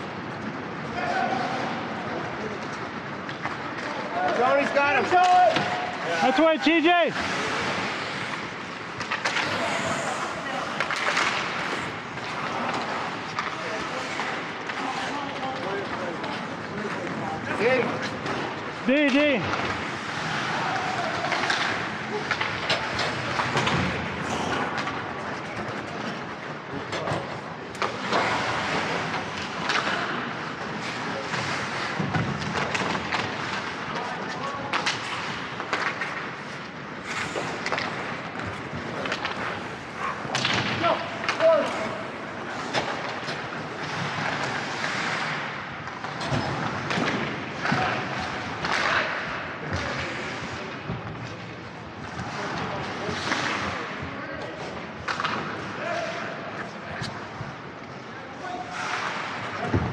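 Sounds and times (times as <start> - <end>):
skate blades scraping ice: 0.3 - 50.9, 51.5 - 59.9
hockey sticks striking puck: 0.3 - 59.9.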